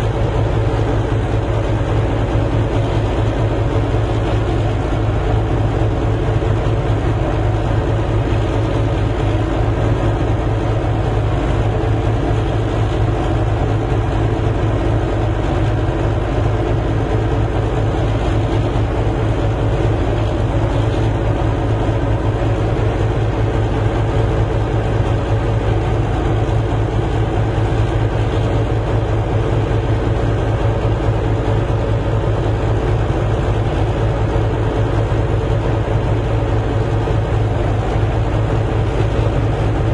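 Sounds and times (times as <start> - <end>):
large engine drone: 0.0 - 39.9.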